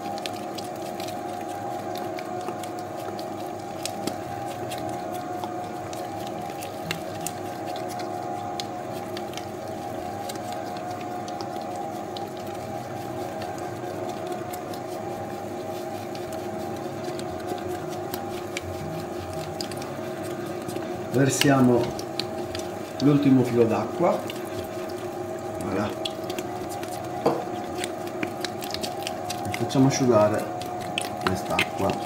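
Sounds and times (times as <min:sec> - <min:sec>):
dough mixer motor humming: 0:00.0 - 0:32.0.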